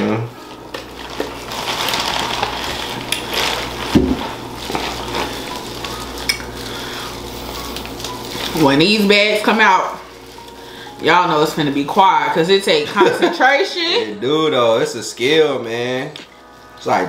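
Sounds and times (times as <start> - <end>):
plastic bags and gloves crinkling: 0.4 - 17.0.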